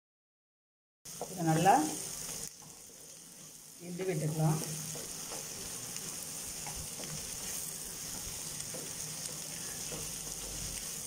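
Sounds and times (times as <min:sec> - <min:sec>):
eggs and vegetables sizzling in oil: 0:01.1 - 0:11.0
wooden spatula scraping a pan: 0:01.1 - 0:11.0.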